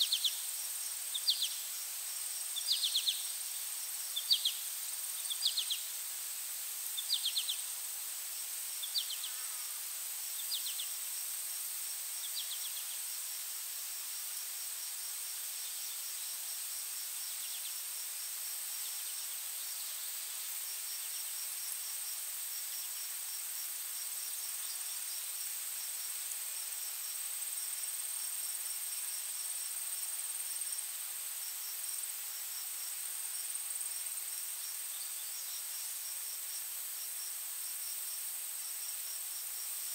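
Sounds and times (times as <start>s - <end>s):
insect chorus whine: 0.0s - 39.9s.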